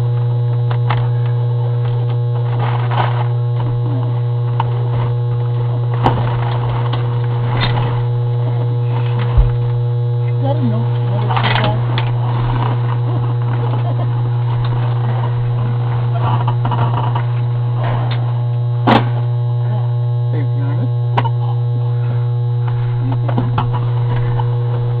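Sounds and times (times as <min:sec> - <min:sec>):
loud electrical hum: 0:00.0 - 0:25.0.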